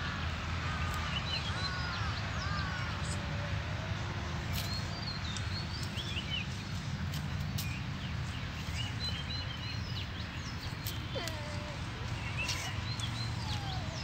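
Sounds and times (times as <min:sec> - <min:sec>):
small birds chirping: 0:00.7 - 0:03.3, 0:04.4 - 0:14.0.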